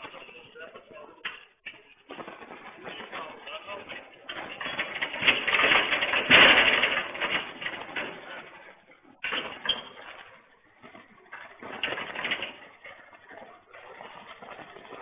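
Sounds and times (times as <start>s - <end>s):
metal gate rattling and knocking: 1.2s - 15.0s.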